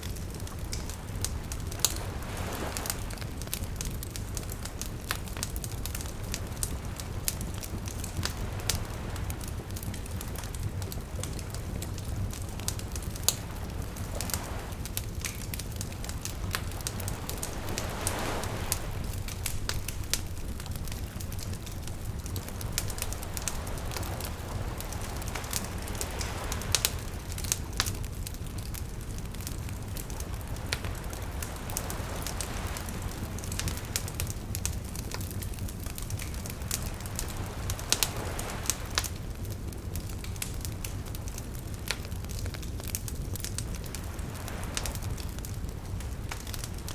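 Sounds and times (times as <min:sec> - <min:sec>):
steady low rumble: 0:00.0 - 0:44.4
campfire crackling and popping: 0:00.0 - 0:46.9
small waves lapping: 0:00.0 - 0:46.9.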